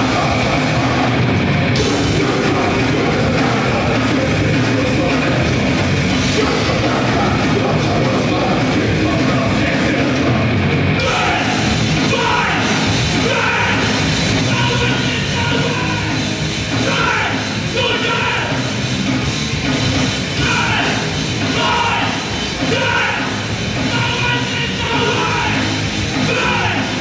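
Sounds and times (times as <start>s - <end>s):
shouted vocals: 0.0s - 18.8s, 20.3s - 27.0s
grindcore band playing: 0.0s - 27.0s.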